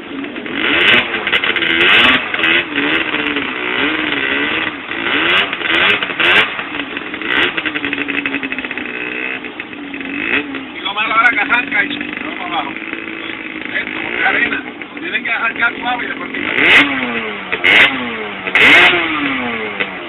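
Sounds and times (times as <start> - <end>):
quad engine revving: 0.0 - 20.0
wheels spinning in mud: 0.0 - 20.0.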